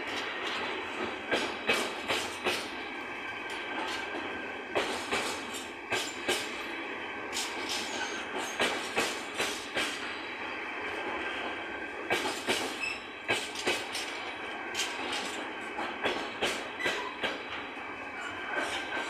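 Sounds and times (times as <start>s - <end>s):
train wheels clacking over joints: 0.0s - 10.2s, 11.0s - 19.0s
train rumble: 0.0s - 19.0s.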